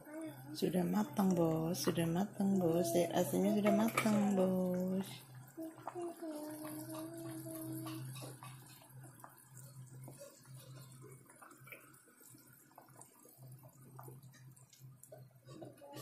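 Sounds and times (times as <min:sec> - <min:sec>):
faint ticks and clicks: 0:01.0 - 0:16.0.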